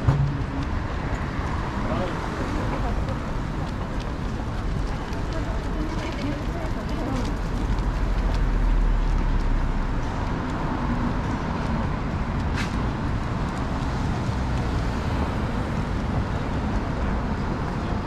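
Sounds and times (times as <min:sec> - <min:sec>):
rumble of passing cars: 0:00.0 - 0:18.0.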